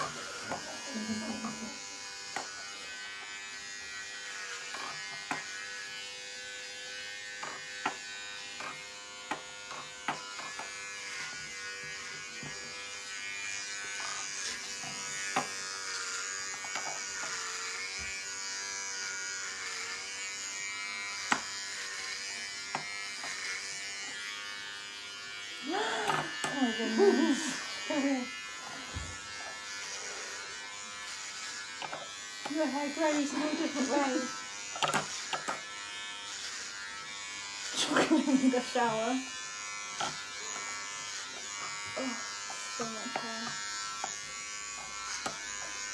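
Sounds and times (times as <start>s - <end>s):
electric hair clippers buzzing: 0.0s - 45.9s.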